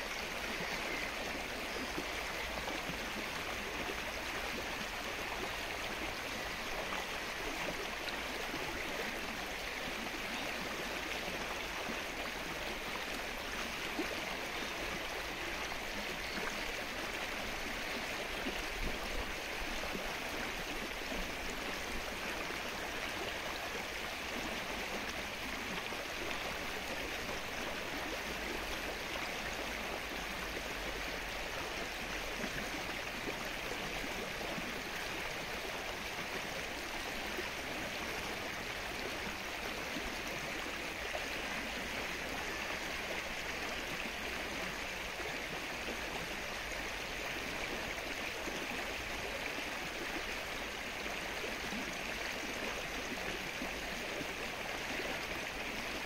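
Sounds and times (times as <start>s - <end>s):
rain falling on lake water: 0.0s - 56.0s.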